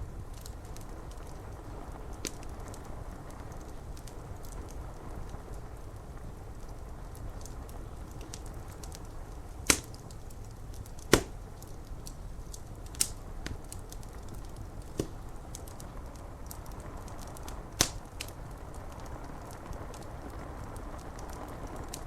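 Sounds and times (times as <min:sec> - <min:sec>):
rain on window glass: 0:00.0 - 0:22.0
wood fire crackling and popping: 0:00.0 - 0:22.0.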